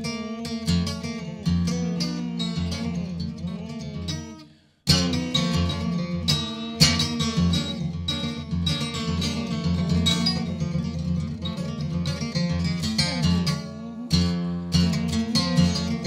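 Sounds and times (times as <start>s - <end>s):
acoustic guitar played fast: 0.0s - 16.0s.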